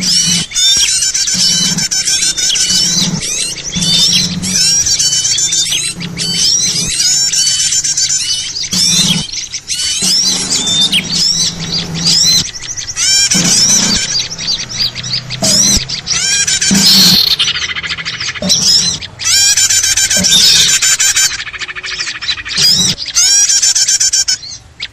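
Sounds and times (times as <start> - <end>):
small birds chirping and twittering: 0.0 - 24.9.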